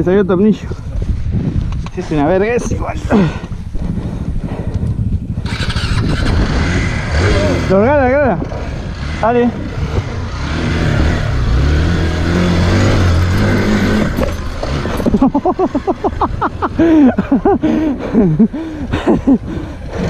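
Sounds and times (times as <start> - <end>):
motorcycle engine revving: 3.1 - 20.0.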